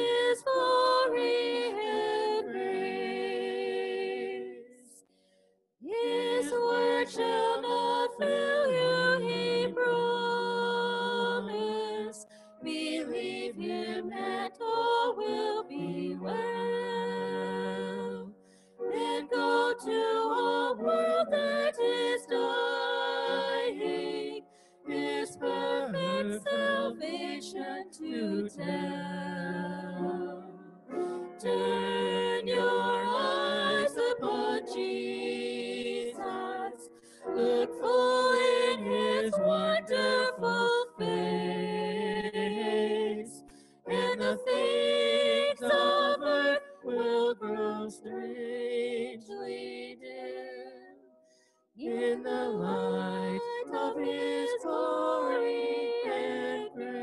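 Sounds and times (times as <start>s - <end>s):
voices singing a hymn: 0.0s - 5.0s, 5.8s - 51.0s, 51.8s - 57.0s.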